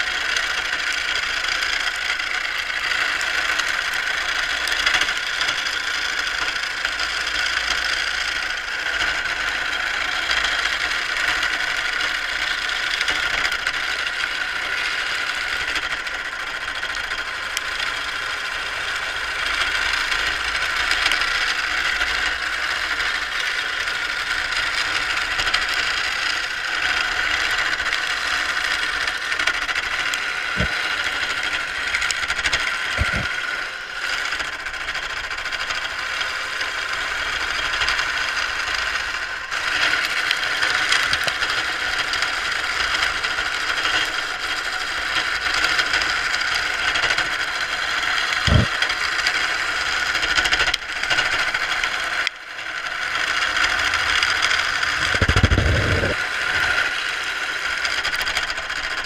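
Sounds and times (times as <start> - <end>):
wood lathe cutting tool scraping: 0.0 - 59.0.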